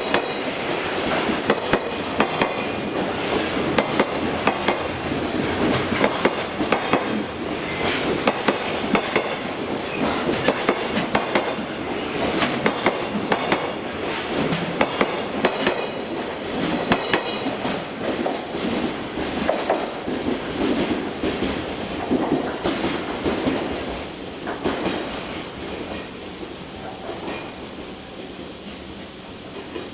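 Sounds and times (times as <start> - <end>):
train wheels clicking over rail joints: 0.0 - 27.6.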